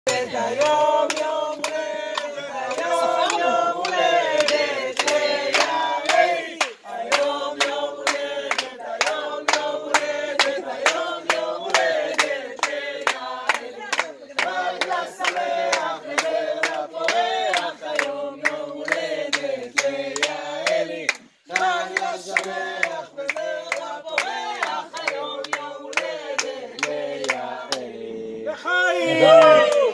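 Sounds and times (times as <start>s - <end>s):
people clapping along: 0.1s - 28.2s, 29.0s - 29.9s
group of people singing: 0.1s - 29.9s.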